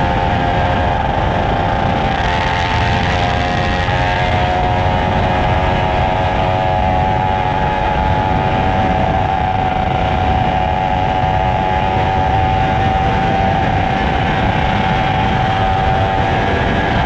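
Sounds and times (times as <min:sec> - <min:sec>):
motorcycle engine cruising: 0:00.0 - 0:17.0
wind rushing over microphone: 0:00.0 - 0:17.0.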